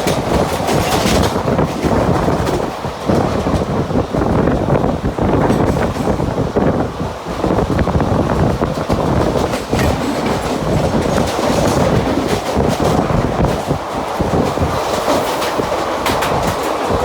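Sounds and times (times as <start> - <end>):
wheels clattering over track: 0.0 - 6.8, 7.4 - 17.0
train rumbling at speed: 0.0 - 17.0.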